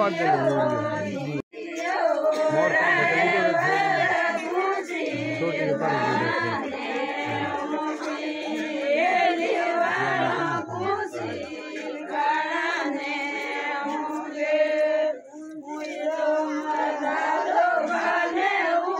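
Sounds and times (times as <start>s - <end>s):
group of voices singing: 0.0s - 18.9s.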